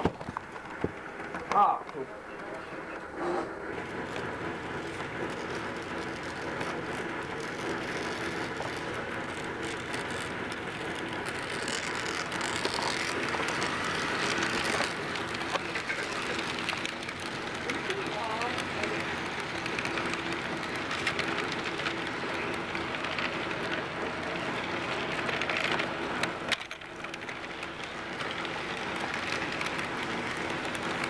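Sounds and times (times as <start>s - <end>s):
wheels clicking over rail joints: 0.0s - 2.6s, 3.7s - 31.0s
model train motor whir: 3.1s - 31.0s.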